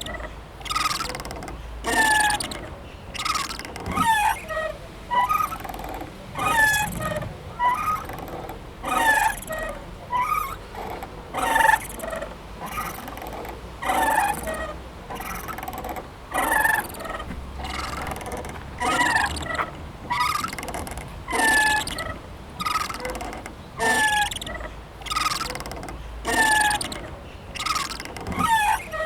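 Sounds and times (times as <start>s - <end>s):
playground swing squeaking: 0.0s - 29.0s.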